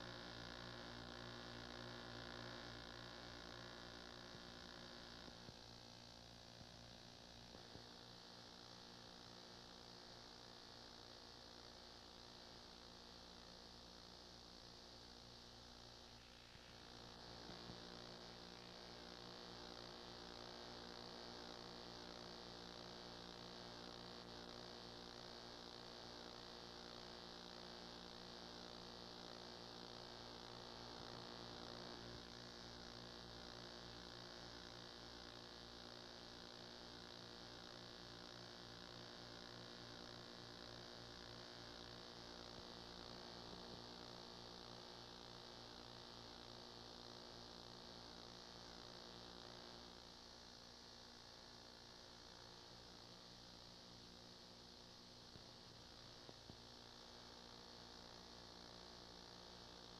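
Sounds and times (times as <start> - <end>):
tape hiss: 0.0 - 13.2, 14.3 - 59.9
faint electrical hum: 0.0 - 59.9.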